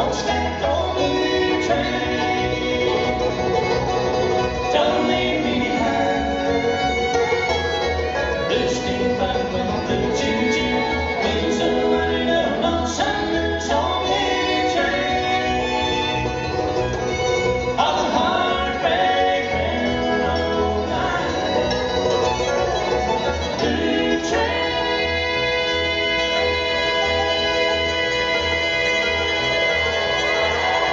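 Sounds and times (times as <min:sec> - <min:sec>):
acoustic guitar: 0:00.0 - 0:30.9
banjo: 0:00.0 - 0:30.9
bass: 0:00.0 - 0:30.9
fiddle: 0:00.0 - 0:30.9
mandolin: 0:00.0 - 0:30.9.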